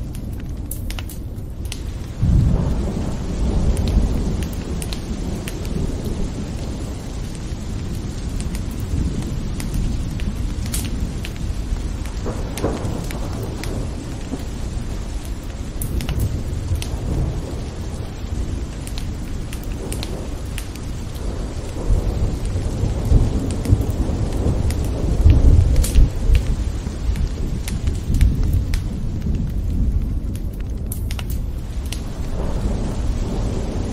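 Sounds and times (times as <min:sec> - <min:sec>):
rolling thunder: 0:00.0 - 0:33.9
sharp raindrop ticks: 0:00.0 - 0:33.9
steady rain: 0:00.0 - 0:33.9.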